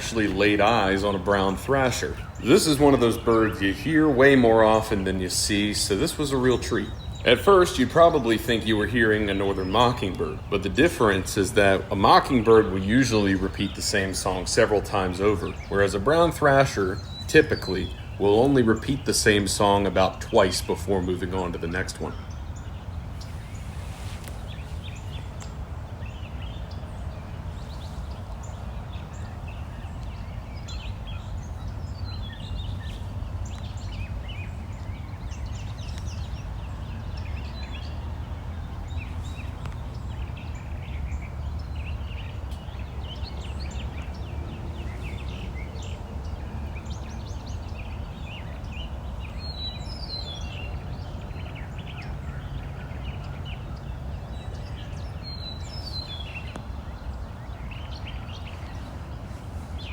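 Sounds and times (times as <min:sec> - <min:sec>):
bird singing varied phrases: 0:00.0 - 0:59.9.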